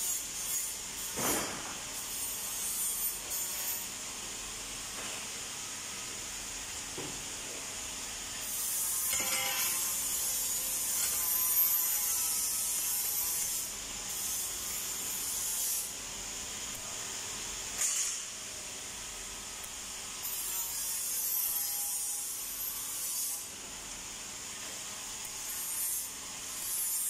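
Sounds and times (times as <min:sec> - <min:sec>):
welding arc crackling and hissing: 0:00.0 - 0:27.0.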